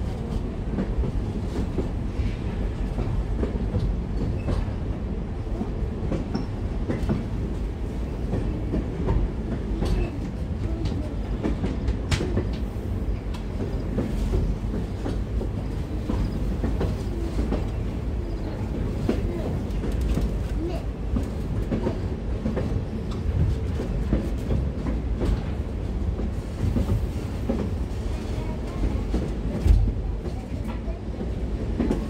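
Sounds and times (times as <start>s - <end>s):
train clicks and clanks: 0.0s - 32.0s
train wheels rumbling on rail: 0.0s - 32.0s.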